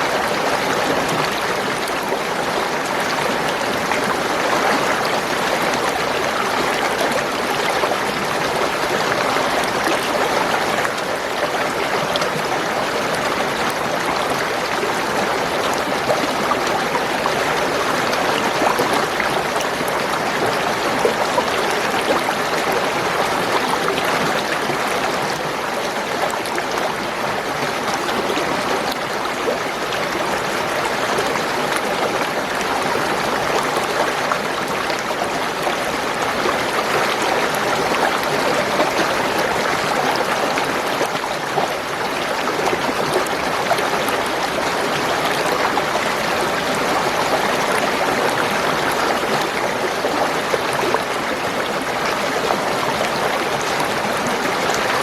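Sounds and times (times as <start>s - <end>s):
spring water gurgling: 0.0s - 55.0s.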